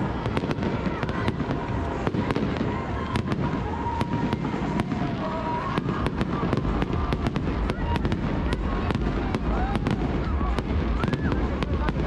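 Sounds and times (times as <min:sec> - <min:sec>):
fireworks cracking and banging: 0:00.0 - 0:12.0
rumble of firework bursts: 0:00.0 - 0:12.0.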